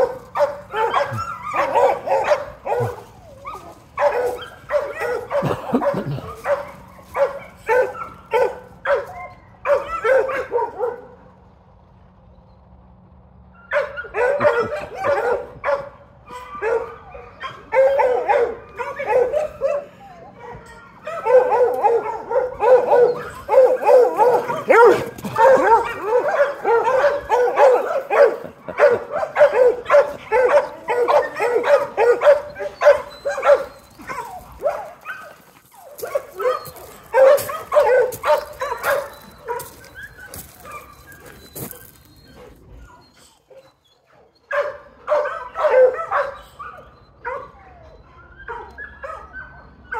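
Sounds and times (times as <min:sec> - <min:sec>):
dogs barking and yipping: 0:00.0 - 0:11.7, 0:12.4 - 0:49.9.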